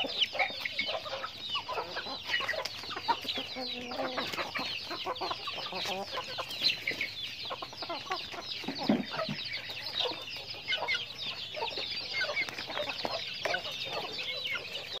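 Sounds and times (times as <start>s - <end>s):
chicks peeping: 0.0s - 15.0s
hens clucking: 0.0s - 15.0s.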